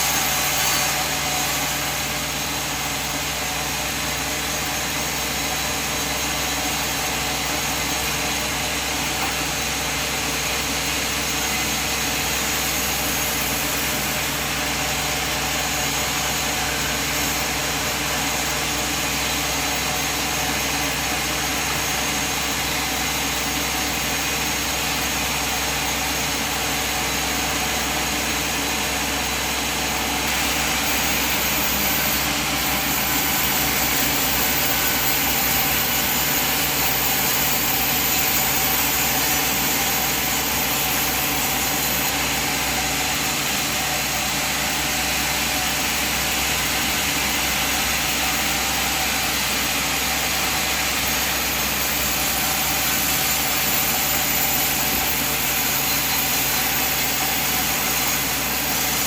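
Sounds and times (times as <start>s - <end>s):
sawmill machine running: 0.0s - 59.0s.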